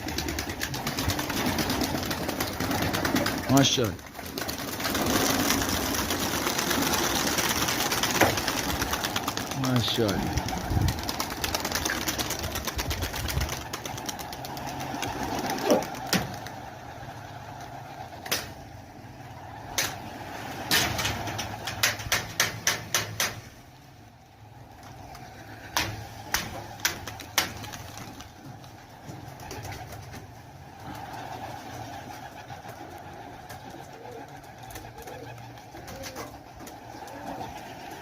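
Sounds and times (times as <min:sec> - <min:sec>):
pigeons cooing: 0:00.0 - 0:23.4, 0:24.3 - 0:38.0.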